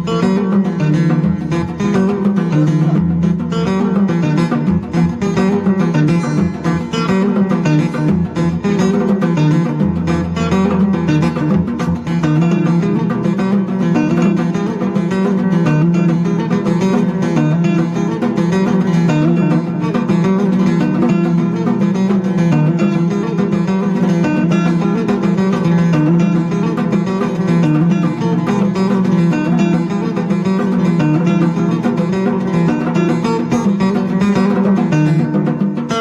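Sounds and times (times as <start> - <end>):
acoustic guitar plucked: 0.0 - 36.0.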